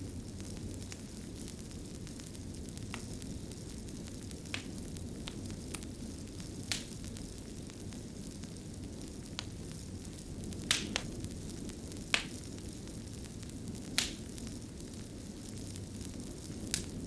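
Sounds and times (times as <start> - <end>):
fire crackling: 0.0 - 17.0
sharp pops of fire: 0.0 - 17.0.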